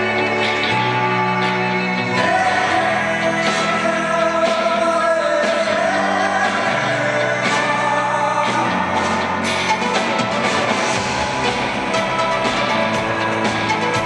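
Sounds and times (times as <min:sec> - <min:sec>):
live band playing: 0:00.0 - 0:14.0
person singing: 0:00.0 - 0:14.0.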